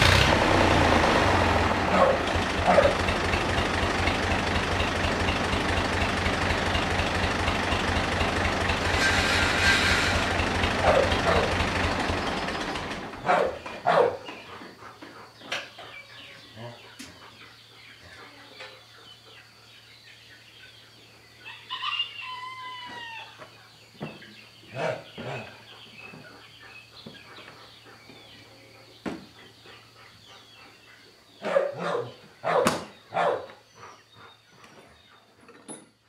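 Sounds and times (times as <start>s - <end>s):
farmyard animal calls: 1.1s - 35.6s.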